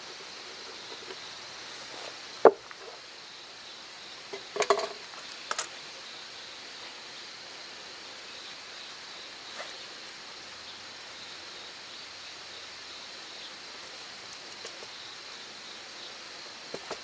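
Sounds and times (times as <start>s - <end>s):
high insect hum: 0.0s - 17.0s.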